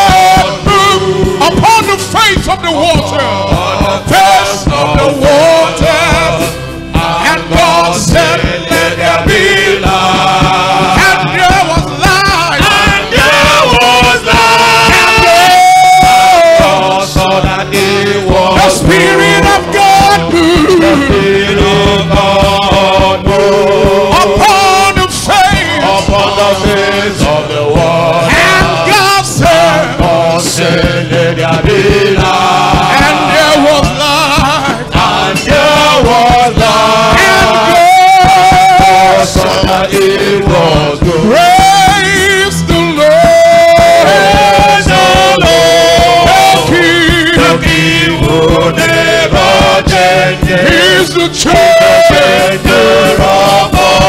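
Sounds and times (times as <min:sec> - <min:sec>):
instrumental backing with beat: 0:00.0 - 0:54.0
men's choir singing: 0:00.0 - 0:54.0.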